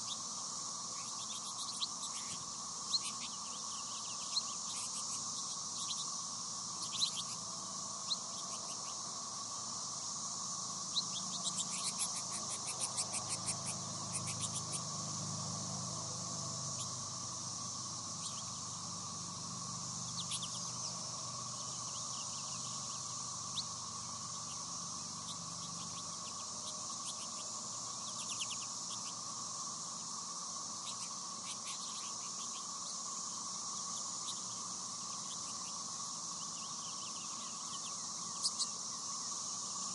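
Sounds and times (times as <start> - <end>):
finches chirping and twittering: 0.0 - 39.9
high insect drone: 0.0 - 39.9.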